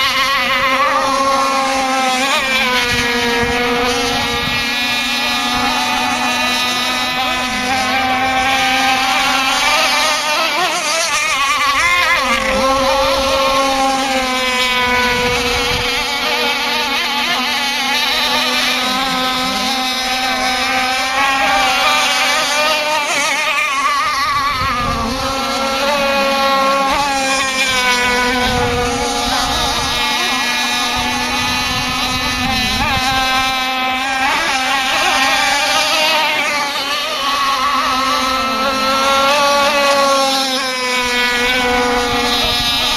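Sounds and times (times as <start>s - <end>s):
model speedboat engine buzzing: 0.0s - 42.9s.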